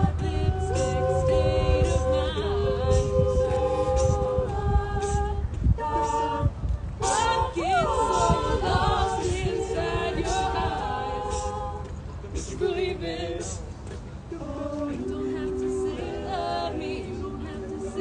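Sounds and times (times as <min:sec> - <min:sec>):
a cappella group singing harmony: 0:00.0 - 0:18.0.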